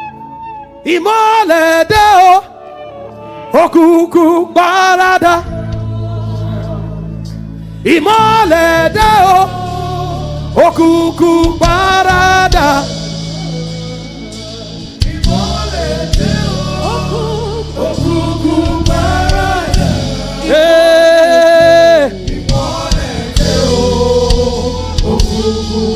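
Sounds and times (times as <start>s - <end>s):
bass and keyboard accompaniment: 0.0s - 25.9s
voices singing gospel song: 3.4s - 25.9s.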